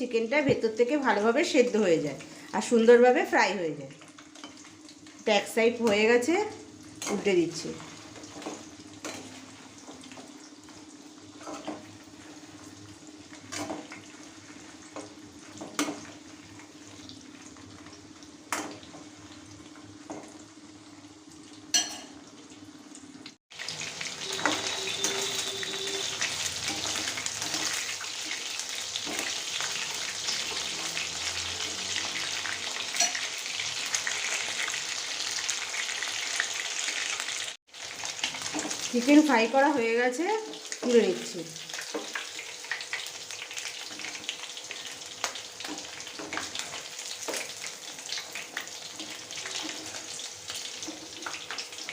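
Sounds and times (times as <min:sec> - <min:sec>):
chicken sizzling in hot oil: 0:00.8 - 0:51.9.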